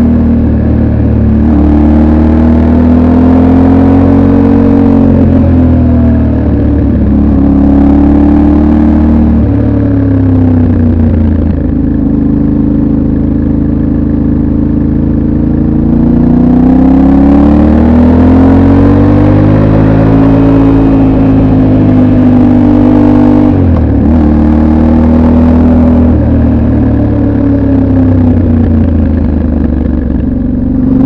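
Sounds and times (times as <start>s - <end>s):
motorcycle engine while riding: 0.0s - 31.0s.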